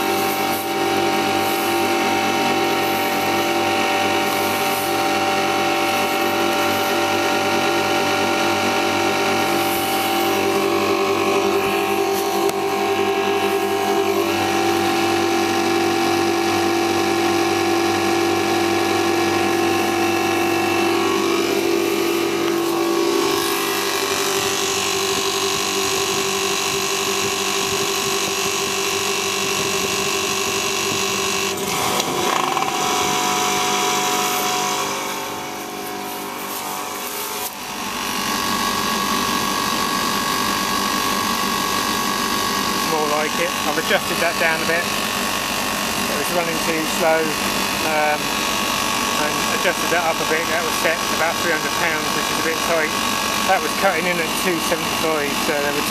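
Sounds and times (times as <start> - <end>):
compressor and fan humming: 0.0 - 55.9.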